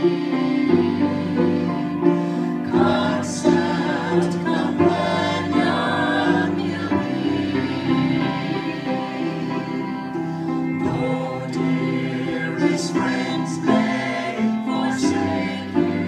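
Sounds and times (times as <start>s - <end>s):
piano accompaniment: 0.0s - 16.0s
vocal quartet singing in harmony: 0.0s - 16.0s.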